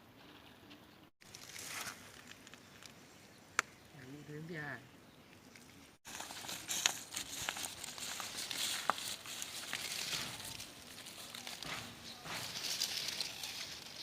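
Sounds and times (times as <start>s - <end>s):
rustling crinkling noise: 0.2s - 3.2s, 5.3s - 14.0s.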